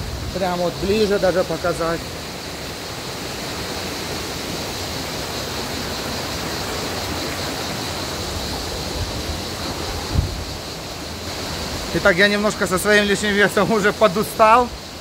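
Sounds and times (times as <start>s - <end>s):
stream rushing over waterfalls: 0.0s - 15.0s.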